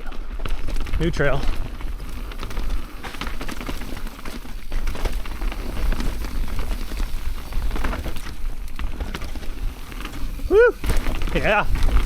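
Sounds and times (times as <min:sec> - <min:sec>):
bike rattling: 0:00.0 - 0:12.0
bike tyres crackling over dirt: 0:00.0 - 0:12.0.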